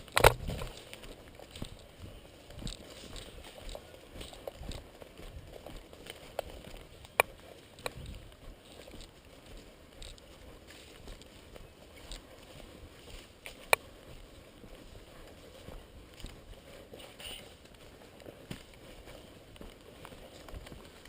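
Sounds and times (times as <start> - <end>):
rustling of gear: 0.0 - 21.0.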